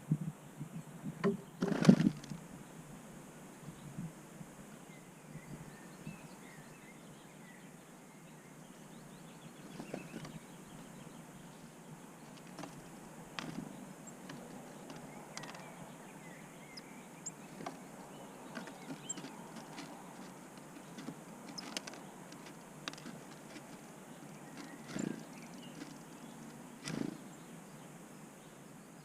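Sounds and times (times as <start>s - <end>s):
outdoor background noise: 0.0s - 29.0s
small birds chirping: 3.6s - 29.0s.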